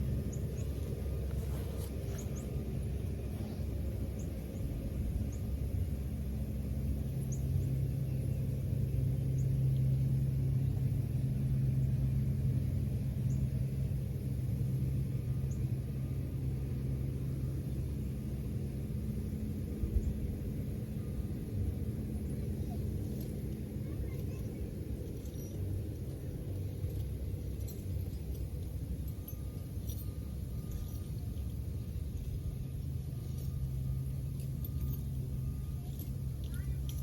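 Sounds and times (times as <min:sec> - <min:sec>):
low mechanical rumble with hum: 0:00.0 - 0:37.0.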